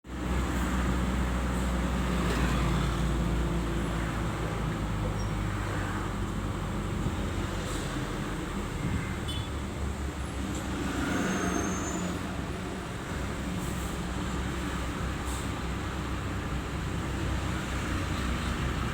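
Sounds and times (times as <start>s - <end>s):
traffic jam engines humming: 0.1s - 18.9s.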